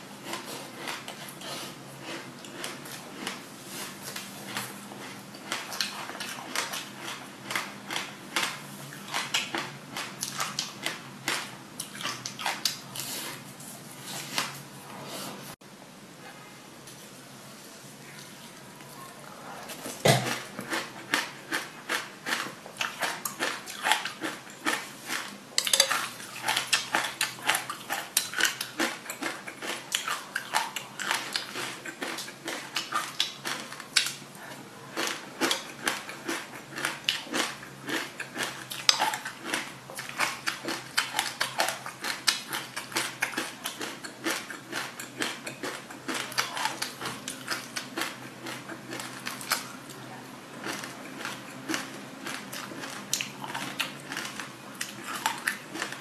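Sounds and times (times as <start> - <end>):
crunchy chewing: 0.2 - 14.6, 19.6 - 56.0.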